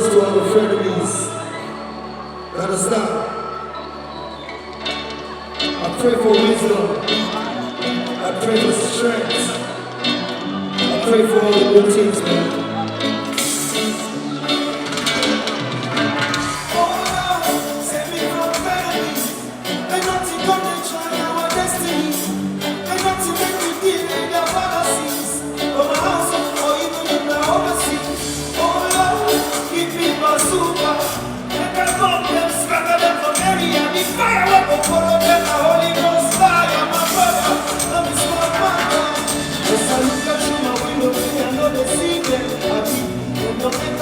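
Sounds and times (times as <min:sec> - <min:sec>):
person singing: 0:00.0 - 0:15.6, 0:16.3 - 0:44.0
live band music: 0:04.6 - 0:44.0
steady bass line: 0:05.8 - 0:44.0.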